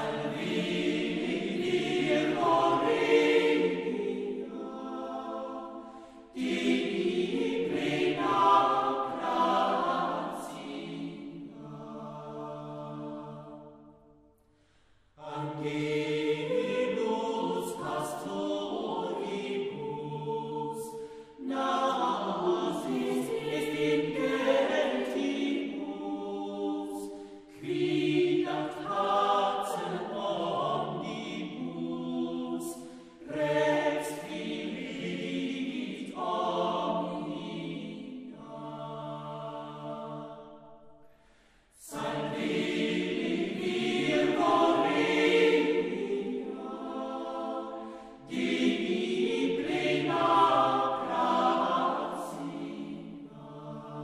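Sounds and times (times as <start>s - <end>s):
choir singing a chant: 0.0s - 14.4s, 15.1s - 54.0s.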